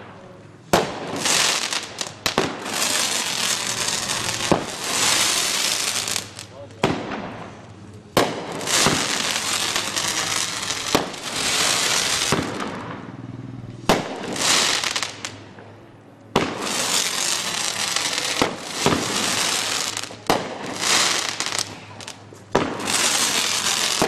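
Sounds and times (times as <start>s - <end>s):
firework crackling: 0.0s - 13.1s, 13.8s - 24.0s
firework bangs: 0.0s - 13.2s, 13.8s - 24.0s.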